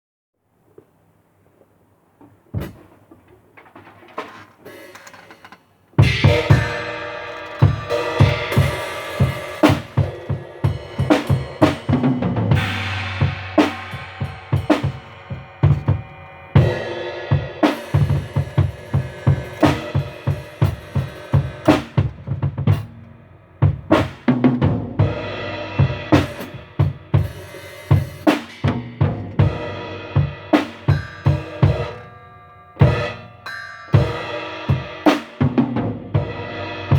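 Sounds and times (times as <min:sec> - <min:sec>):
drum kit playing: 0:02.6 - 0:03.0, 0:04.2 - 0:36.9.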